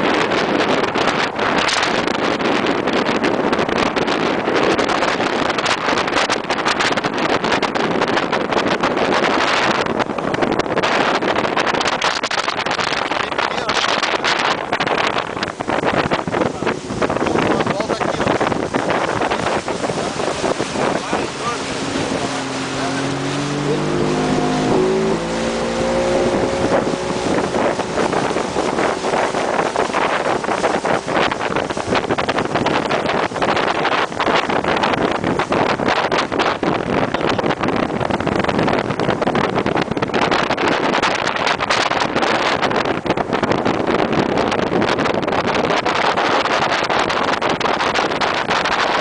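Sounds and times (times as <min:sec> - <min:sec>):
motorboat engine: 0:00.0 - 0:49.0
water rushing past: 0:00.0 - 0:49.0
wind buffeting microphone: 0:00.0 - 0:49.0.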